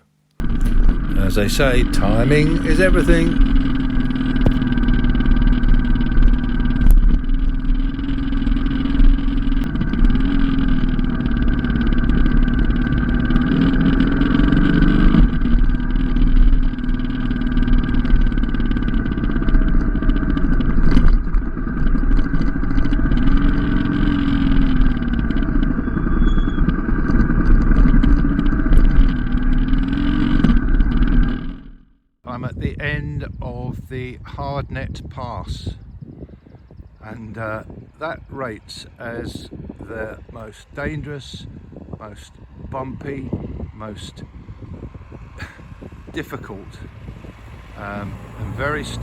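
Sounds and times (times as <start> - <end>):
motorcycle engine revving: 0.0 - 32.2, 35.6 - 49.0
steady low rumble: 0.4 - 49.0.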